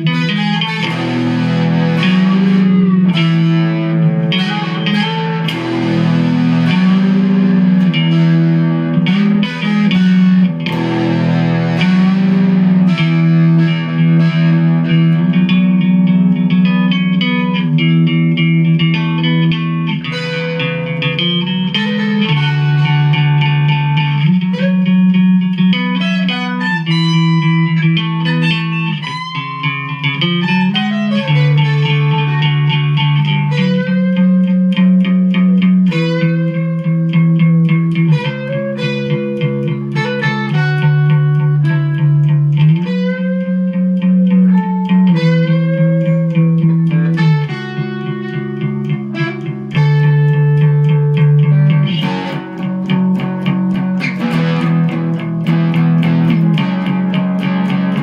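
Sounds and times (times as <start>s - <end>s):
electric guitar music: 0.0s - 58.0s.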